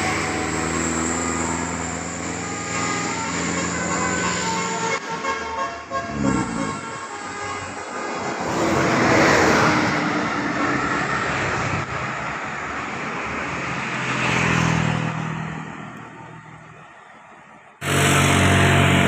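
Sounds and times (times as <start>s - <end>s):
bus driving past: 0.0s - 19.0s.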